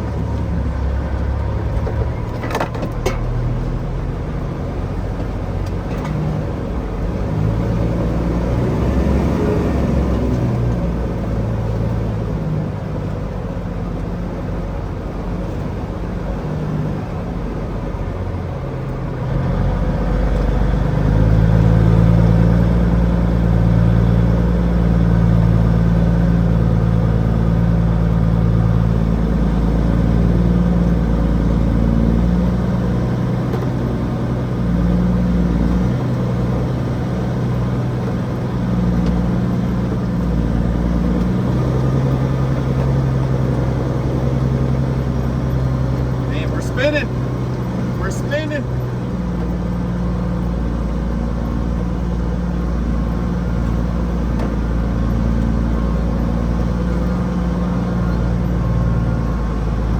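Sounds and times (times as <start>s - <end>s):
truck diesel engine driving: 0.0s - 59.9s.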